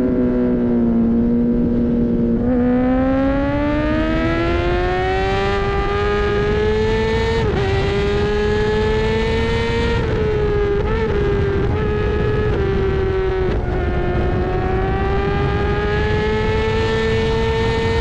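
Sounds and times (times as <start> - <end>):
racing motorcycle engine revving: 0.0 - 18.0
wind rush: 0.0 - 18.0.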